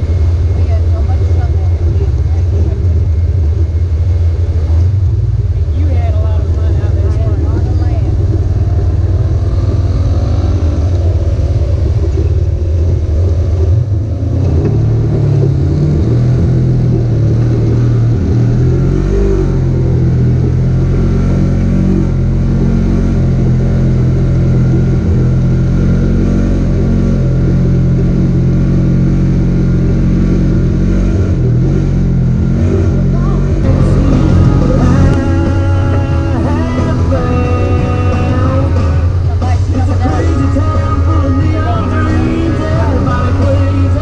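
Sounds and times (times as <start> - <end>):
utility vehicle engine droning: 0.0 - 44.0.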